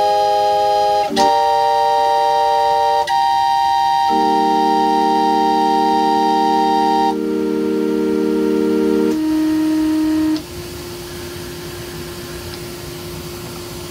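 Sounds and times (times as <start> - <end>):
pipe organ chord: 0.0 - 12.6
organ air supply hiss: 0.0 - 13.9.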